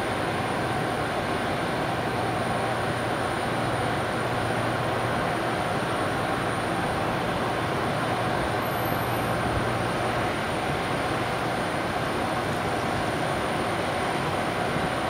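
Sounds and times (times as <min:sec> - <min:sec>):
locomotive ventilation fans humming: 0:00.0 - 0:15.0.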